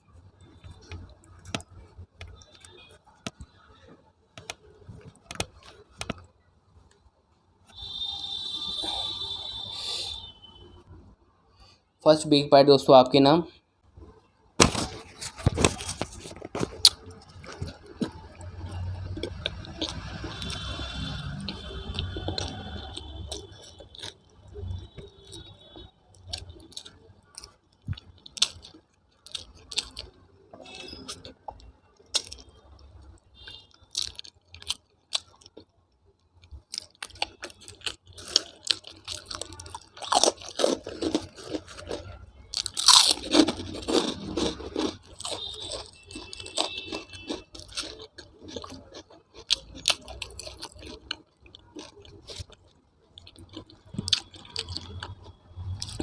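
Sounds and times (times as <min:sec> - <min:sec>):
chewing and crunching food: 0:00.0 - 0:07.1, 0:14.0 - 0:56.0.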